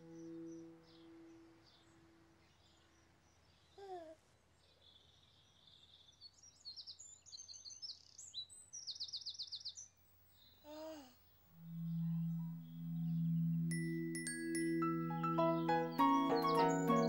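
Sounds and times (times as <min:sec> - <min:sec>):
songbird chirping and trilling: 0:00.0 - 0:03.8, 0:04.7 - 0:10.6, 0:11.6 - 0:17.0.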